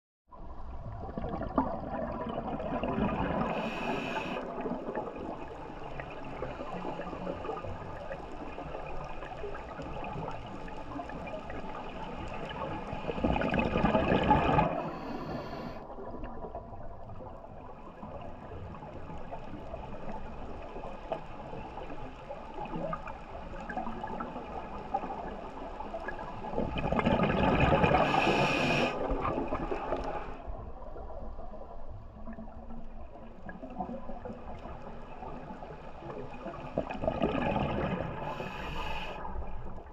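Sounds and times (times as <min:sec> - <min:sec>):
muffled underwater rush: 0:00.3 - 0:39.9
exhaled bubbles rushing: 0:00.4 - 0:20.8, 0:21.4 - 0:39.9.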